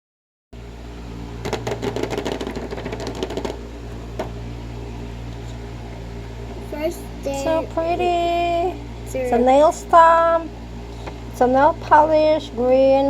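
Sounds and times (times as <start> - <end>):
low steady hum: 0.6 - 13.0.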